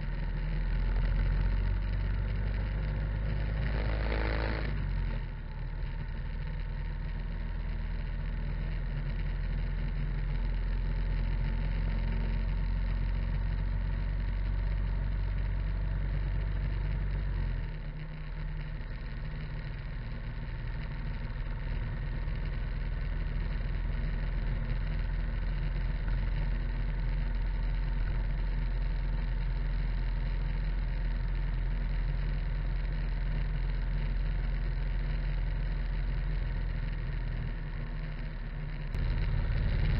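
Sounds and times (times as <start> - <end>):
motorcycle engine cruising: 0.0 - 39.9
tyre noise on road: 0.0 - 39.9.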